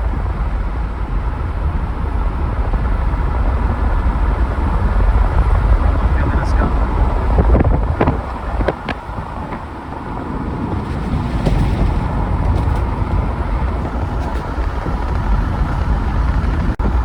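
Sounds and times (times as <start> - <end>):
car driving on road: 0.0 - 17.0
wind buffeting microphone: 0.0 - 17.0.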